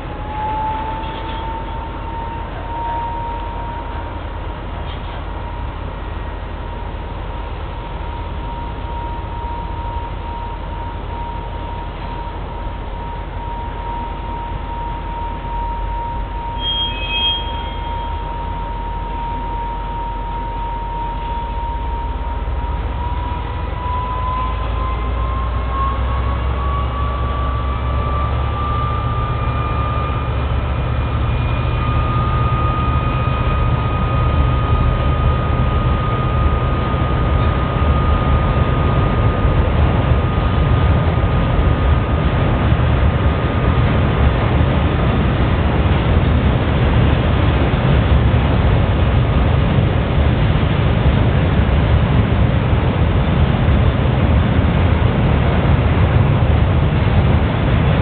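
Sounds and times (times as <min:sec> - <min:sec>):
freight train engine rumble: 0:00.0 - 0:58.0
high whine rising in pitch: 0:00.0 - 0:58.0.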